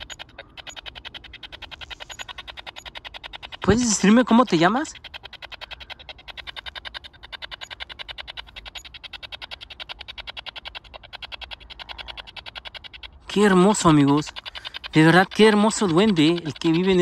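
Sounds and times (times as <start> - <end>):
radio scanner chopping static: 0.0 - 17.0.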